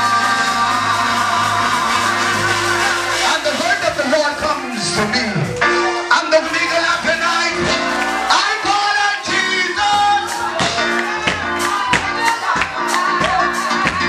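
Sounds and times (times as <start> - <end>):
person singing on a microphone: 0.0 - 5.5, 6.2 - 14.0
drum kit hits: 0.0 - 5.8, 6.4 - 14.0
bass notes: 0.0 - 14.0
keyboard: 0.0 - 14.0.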